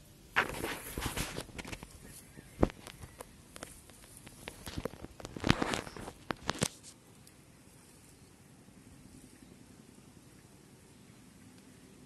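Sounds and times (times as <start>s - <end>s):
rustling and crackling grass: 0.0s - 12.0s.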